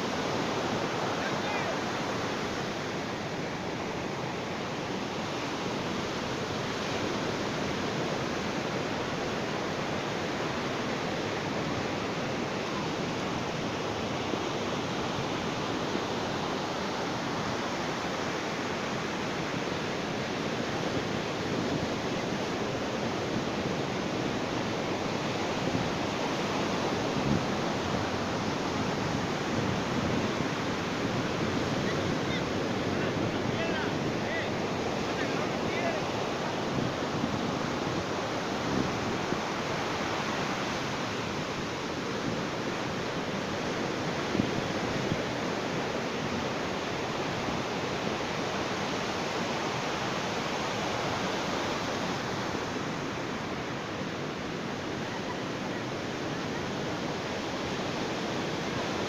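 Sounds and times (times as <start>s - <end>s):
ocean surf on beach: 0.0s - 59.0s.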